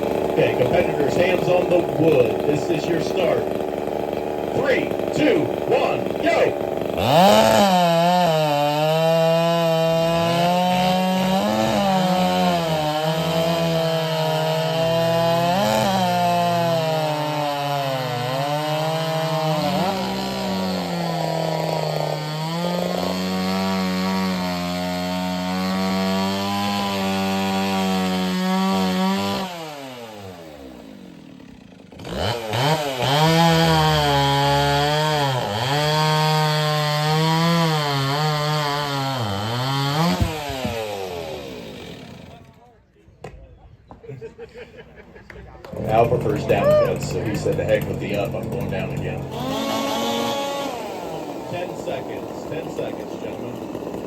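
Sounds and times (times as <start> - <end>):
chainsaws cutting through a log: 0.0 - 42.7, 45.6 - 54.0.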